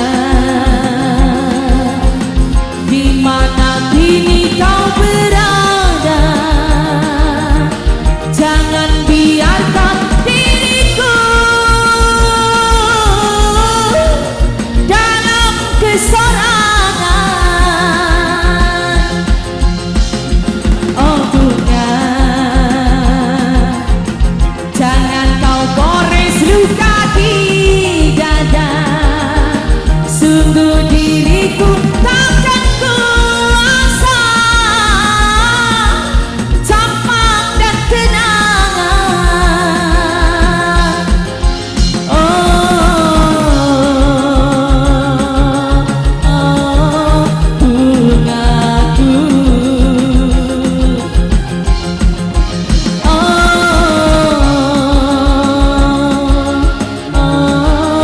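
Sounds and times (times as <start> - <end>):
steady drum beat: 0.0 - 58.0.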